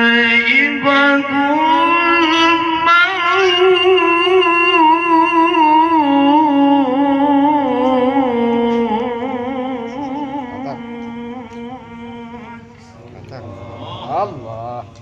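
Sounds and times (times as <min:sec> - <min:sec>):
man reciting through loudspeaker: 0:00.0 - 0:15.0.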